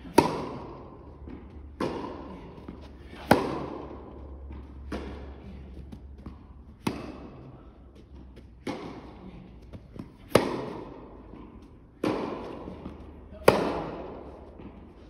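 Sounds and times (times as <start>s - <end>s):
rackets striking tennis ball: 0.0s - 15.0s.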